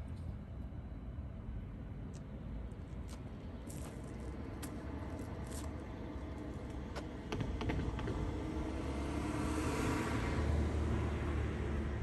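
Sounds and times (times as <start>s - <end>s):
tram rumble and hum: 0.0s - 12.0s.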